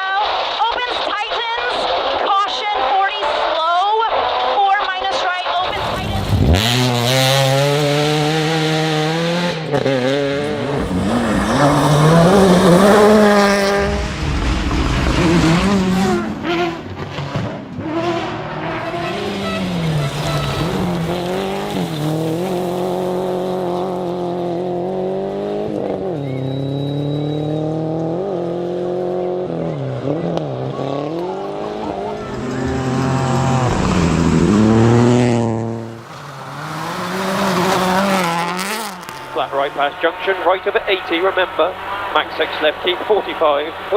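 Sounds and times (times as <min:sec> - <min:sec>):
rally car engine revving: 0:05.6 - 0:43.9.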